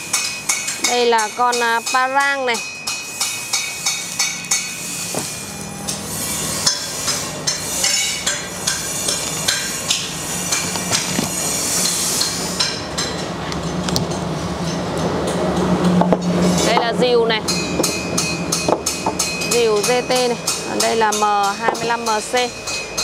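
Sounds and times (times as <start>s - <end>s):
hammer striking metal: 0.0s - 23.0s.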